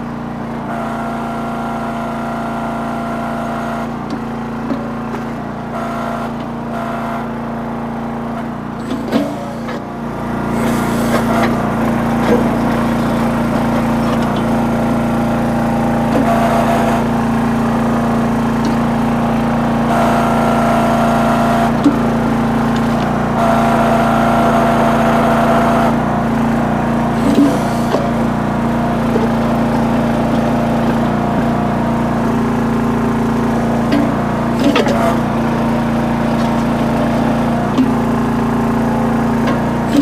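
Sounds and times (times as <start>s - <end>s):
small engine running under load: 0.0s - 40.0s.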